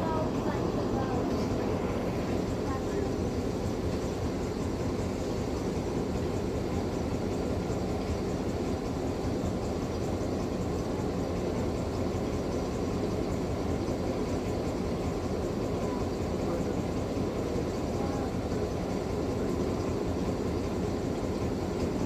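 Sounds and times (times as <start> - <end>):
train rumble and hiss: 0.0 - 22.0.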